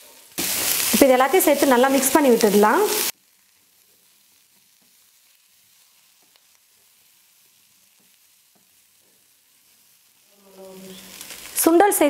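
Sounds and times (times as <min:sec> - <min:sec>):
chickpeas sizzling in oil: 0:00.0 - 0:12.0.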